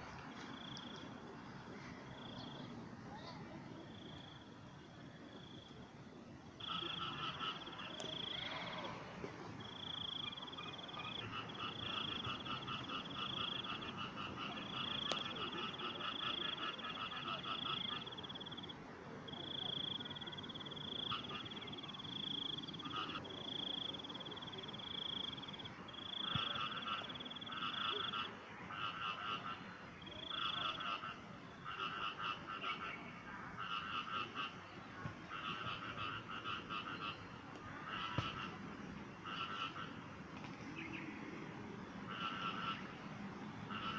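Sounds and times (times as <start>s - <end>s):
frogs calling in chorus: 6.5s - 40.2s, 41.7s - 43.9s.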